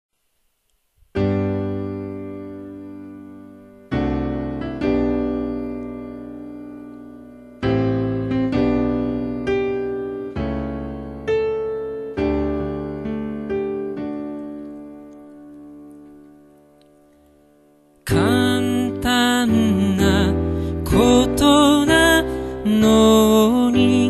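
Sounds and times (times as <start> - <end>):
piano chords ringing: 1.1 - 24.0.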